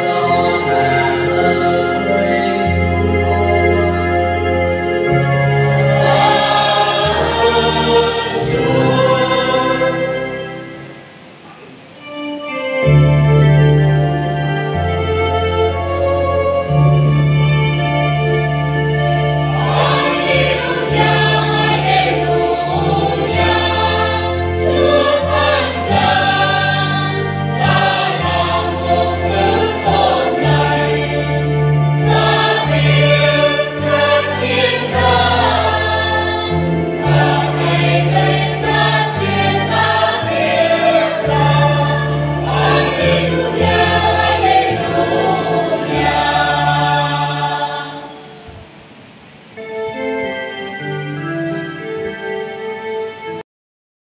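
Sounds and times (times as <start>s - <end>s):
choir singing a hymn: 0.0s - 49.6s
keyboard accompaniment: 0.0s - 53.4s.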